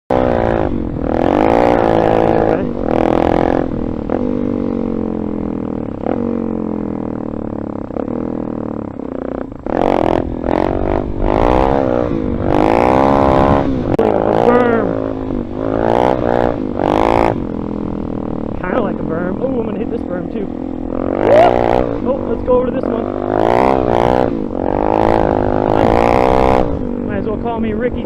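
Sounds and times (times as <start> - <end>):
dirt bike engine revving: 0.1 - 28.0.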